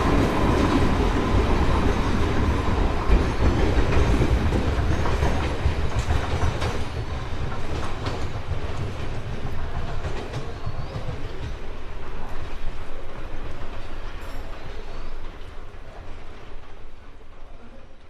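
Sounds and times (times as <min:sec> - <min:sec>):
train rumble: 0:00.0 - 0:18.0
train wheels clacking on rails: 0:00.0 - 0:18.0.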